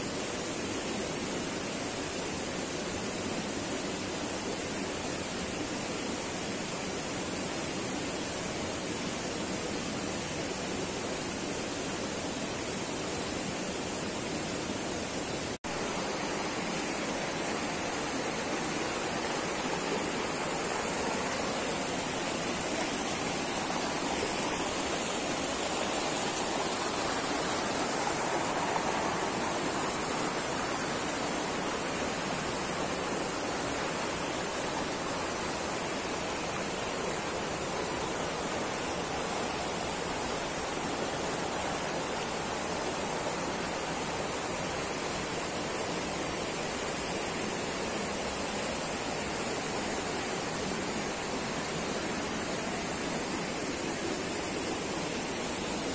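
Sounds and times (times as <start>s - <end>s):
river rushing over boulders: 0.0s - 55.9s.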